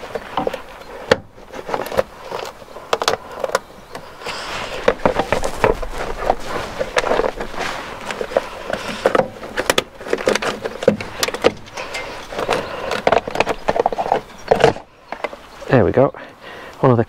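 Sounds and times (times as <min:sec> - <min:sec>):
plastic scraping against hoses: 0:00.0 - 0:15.8.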